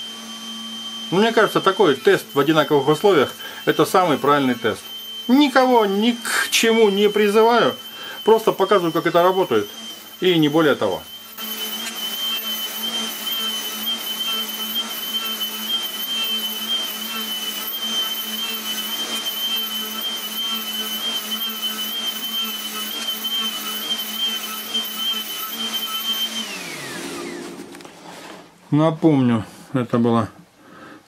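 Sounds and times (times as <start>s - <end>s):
router motor spinning down: 0.0s - 28.0s
router whining: 0.0s - 28.6s.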